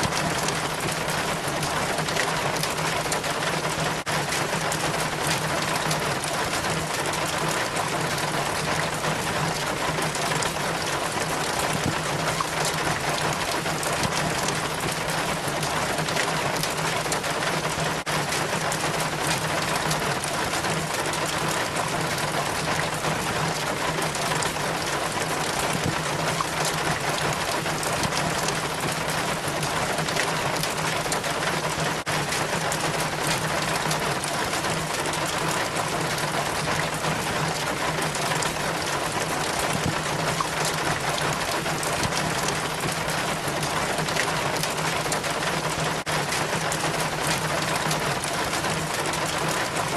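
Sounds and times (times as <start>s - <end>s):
rainwater trickling down rain chain: 0.0s - 49.9s.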